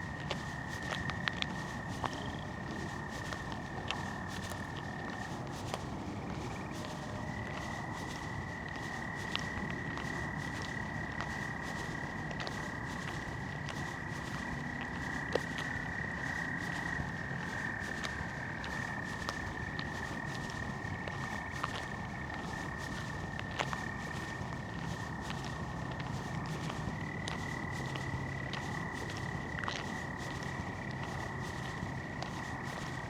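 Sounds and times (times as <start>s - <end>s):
frogs trilling: 0.0s - 33.0s.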